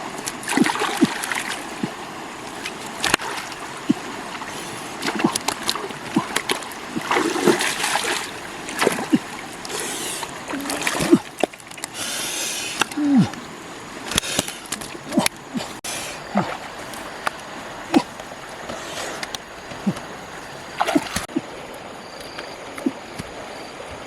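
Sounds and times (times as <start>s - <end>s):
water slaps: 0.0s - 21.5s
gushing bursts of water: 0.0s - 24.0s
water splashing and sloshing: 0.0s - 24.0s.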